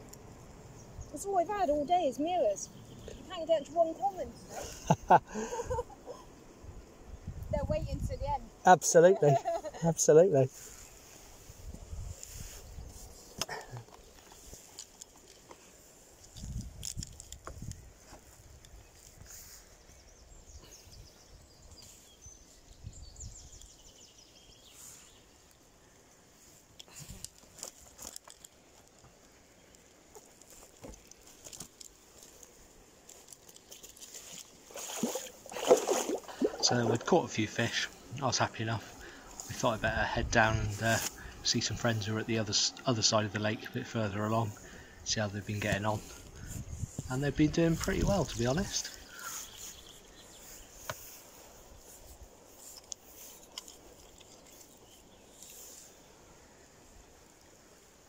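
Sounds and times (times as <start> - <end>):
outdoor background hiss: 0.0 - 58.0
rustling: 9.2 - 22.8, 23.4 - 58.0.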